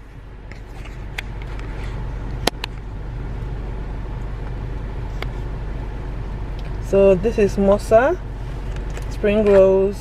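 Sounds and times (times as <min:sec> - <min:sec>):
car interior hum: 0:00.0 - 0:10.0.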